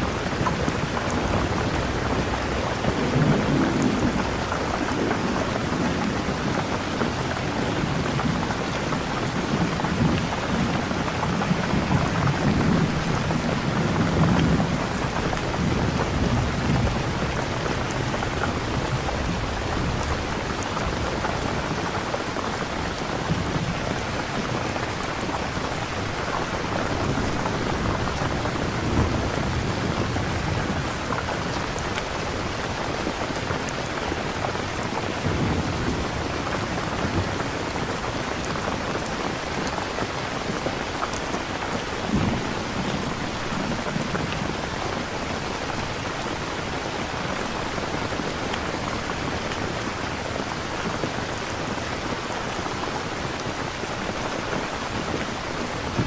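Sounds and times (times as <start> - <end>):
thunder rumbling: 0.0 - 52.6
steady rain: 0.0 - 56.0.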